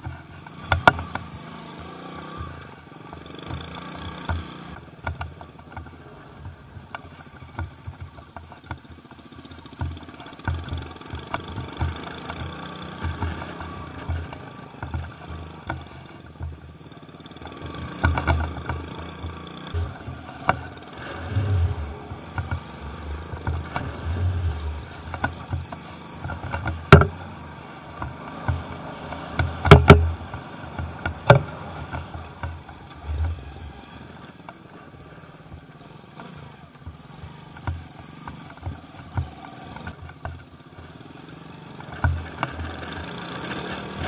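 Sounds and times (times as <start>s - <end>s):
thumps and rattles over rough ground: 0.0s - 1.5s, 2.2s - 44.0s
small motorcycle engine: 0.0s - 44.0s.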